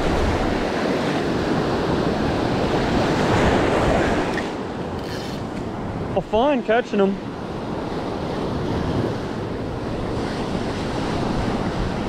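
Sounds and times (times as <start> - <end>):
wind buffeting microphone: 0.0 - 6.2, 7.3 - 12.0
ocean surf breaking: 0.0 - 12.0.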